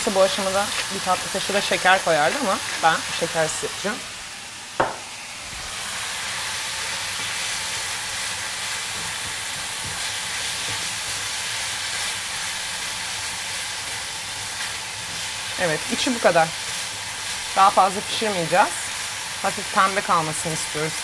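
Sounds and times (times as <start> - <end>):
meat sizzling in a frying pan: 0.0 - 21.0.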